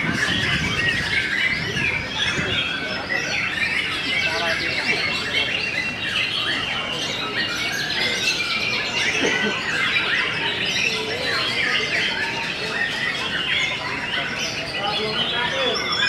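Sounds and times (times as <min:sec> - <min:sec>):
chorus of birds singing: 0:00.0 - 0:16.0.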